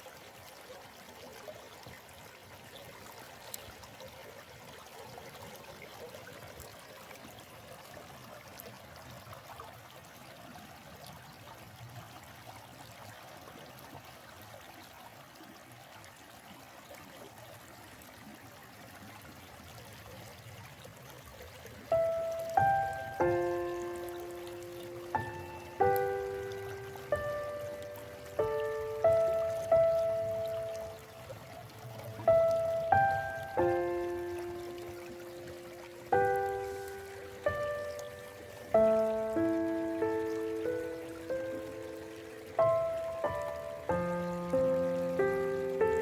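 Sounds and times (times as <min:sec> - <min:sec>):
stream trickling: 0:00.0 - 0:46.0.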